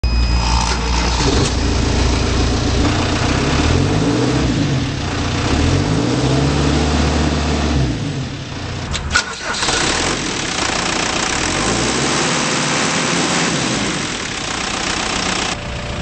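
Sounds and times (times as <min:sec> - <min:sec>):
diesel engine revving: 0:00.6 - 0:16.0.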